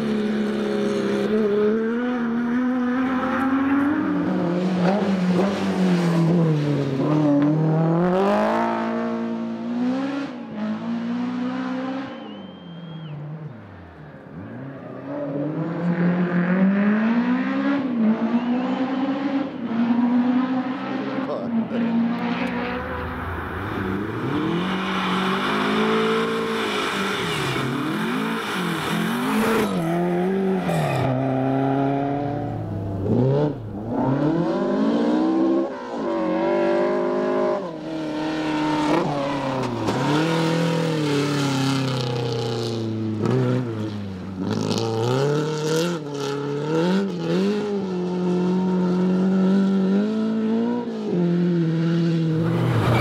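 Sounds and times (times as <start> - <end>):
rally car engine revving: 0.0 - 13.0, 14.5 - 53.0.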